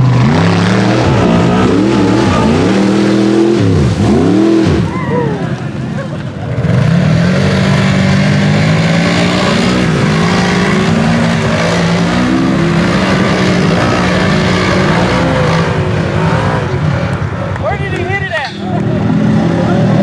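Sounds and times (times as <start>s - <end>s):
utility vehicle engine revving: 0.0s - 17.7s, 18.6s - 20.0s.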